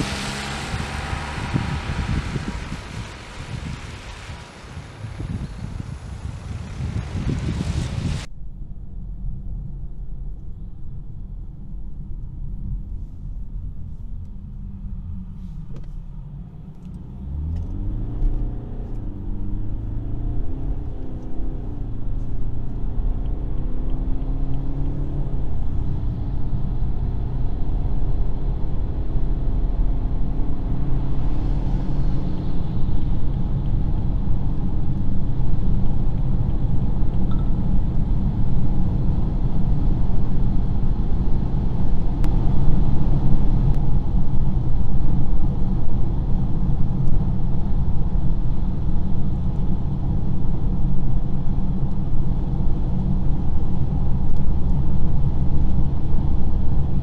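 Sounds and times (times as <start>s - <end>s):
car engine accelerating: 0.0s - 8.3s, 13.6s - 57.0s
road noise: 0.0s - 57.0s.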